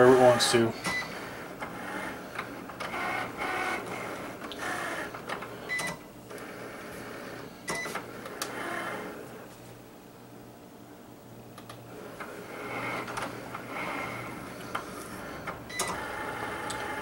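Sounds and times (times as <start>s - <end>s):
cutting machine motors whirring: 0.0s - 9.3s, 11.9s - 17.0s.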